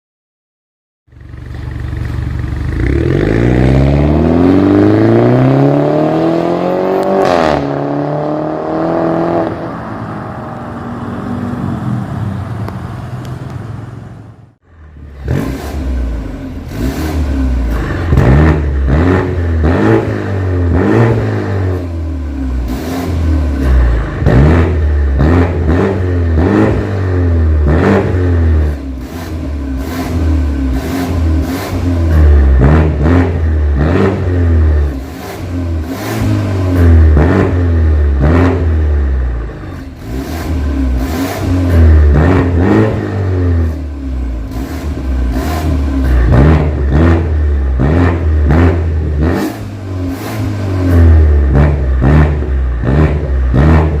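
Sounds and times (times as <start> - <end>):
car engine revving: 1.2 - 54.0.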